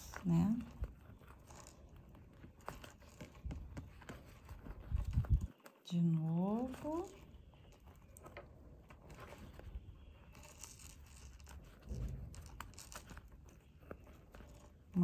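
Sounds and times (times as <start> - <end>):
cord rustling through stitches: 0.0 - 15.0.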